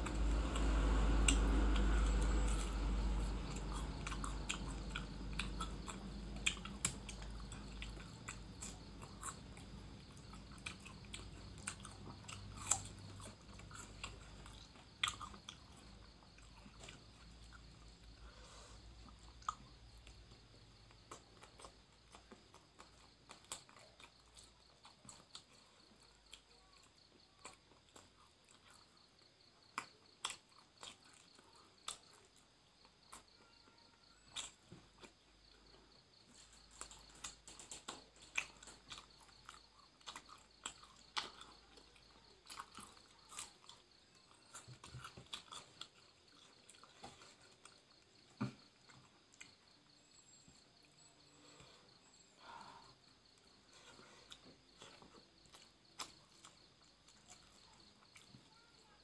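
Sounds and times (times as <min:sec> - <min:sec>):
person chewing and mouth smacks: 0:00.0 - 0:29.0, 0:29.6 - 0:33.4, 0:34.3 - 0:35.7, 0:36.3 - 0:49.7, 0:53.3 - 0:58.5.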